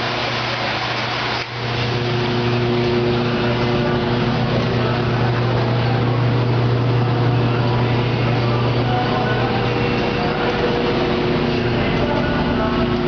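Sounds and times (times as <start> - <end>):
machine motor hum: 0.0 - 13.0.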